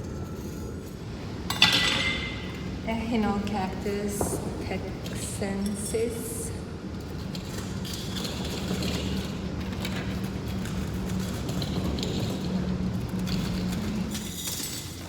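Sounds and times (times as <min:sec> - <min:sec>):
constant noisy background: 0:00.0 - 0:15.0
low droning machine hum: 0:00.0 - 0:15.0.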